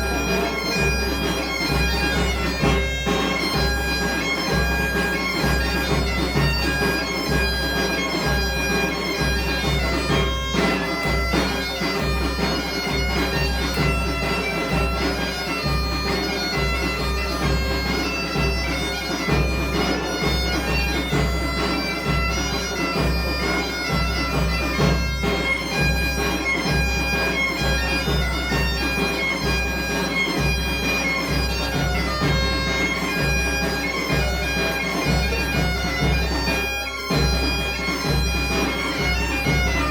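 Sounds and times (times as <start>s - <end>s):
bagpipes playing tune: 0.0s - 39.9s
drum beating rhythm: 0.0s - 39.9s.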